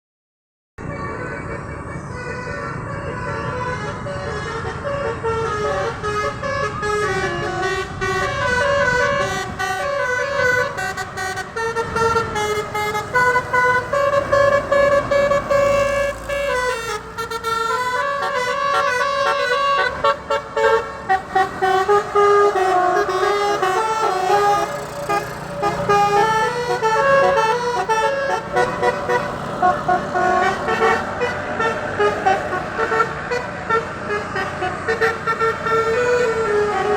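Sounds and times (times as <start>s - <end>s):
musical air horn melody: 0.8s - 36.9s.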